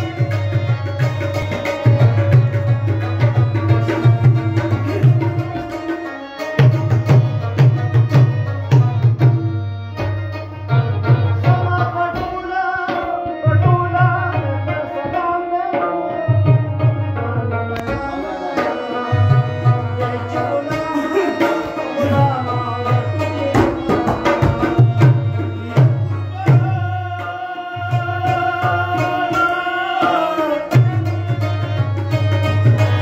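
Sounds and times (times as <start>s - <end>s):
harmonium sustained notes: 0.0s - 33.0s
tabla drumming: 0.0s - 33.0s.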